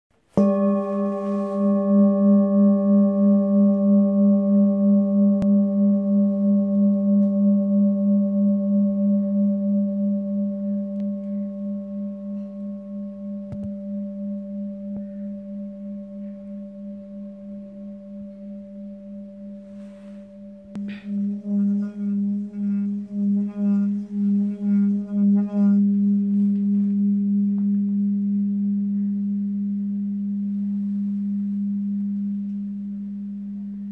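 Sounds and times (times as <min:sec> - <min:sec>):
mallet rubbing bowl rim: 0:00.3 - 0:33.2
singing bowl ringing: 0:00.3 - 0:33.9.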